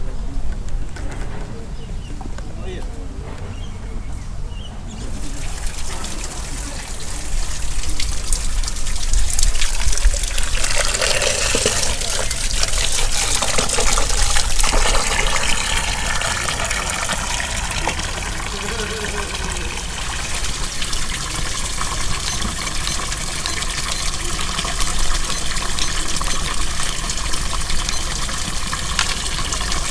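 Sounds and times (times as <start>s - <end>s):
water pouring into wooden pail: 5.1s - 29.9s.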